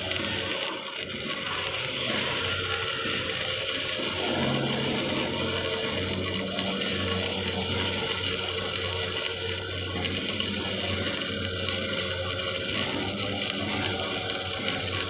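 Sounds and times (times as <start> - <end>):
welding arc crackling and sizzling: 0.0 - 15.0.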